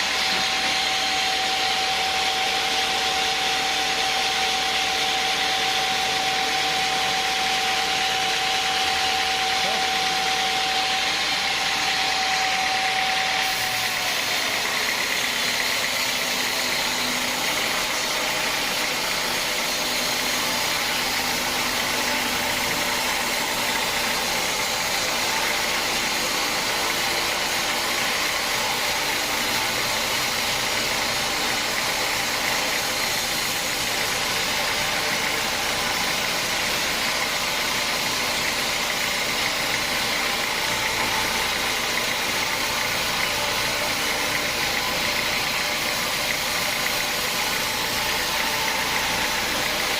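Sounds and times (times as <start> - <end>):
sawmill machinery running: 0.0 - 49.9
steady machine whine: 0.0 - 49.9.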